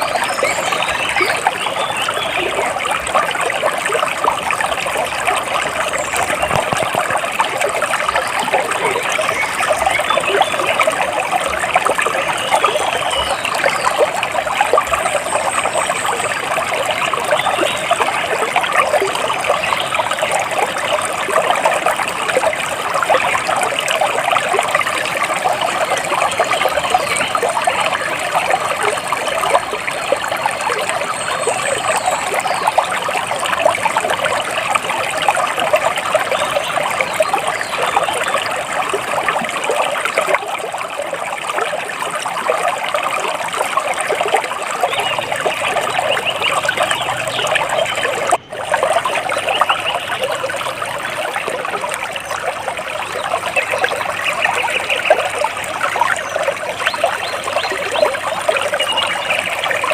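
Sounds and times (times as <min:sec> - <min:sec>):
water trickling over stones: 0:00.0 - 0:59.9.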